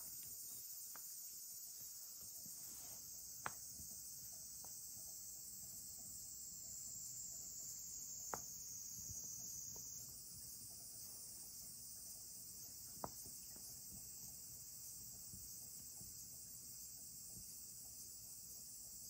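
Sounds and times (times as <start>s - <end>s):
insect chorus trilling: 0.0s - 19.0s.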